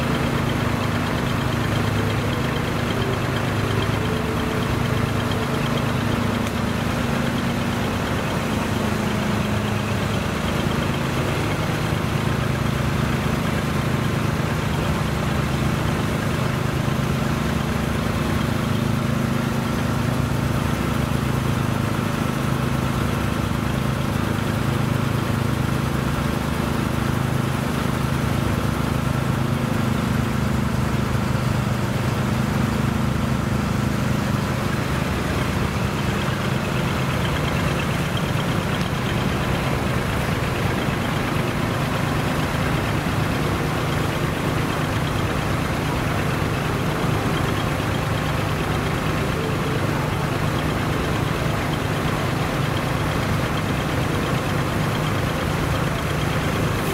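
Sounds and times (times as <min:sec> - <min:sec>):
truck diesel engines idling: 0:00.0 - 0:56.9.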